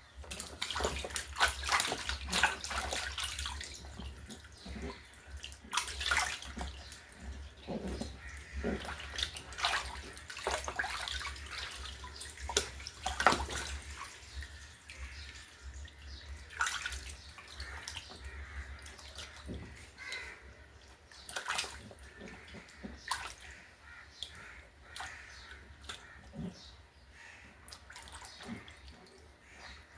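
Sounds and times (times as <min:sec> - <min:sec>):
water dripping: 0:00.0 - 0:29.9
water splashing in a basin: 0:00.0 - 0:29.9.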